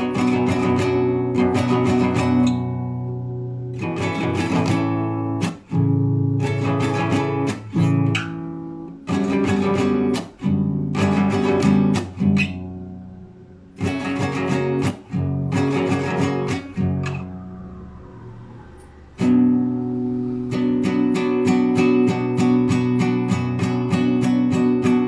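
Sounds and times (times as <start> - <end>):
solo classical guitar arpeggios: 0.0 - 25.0.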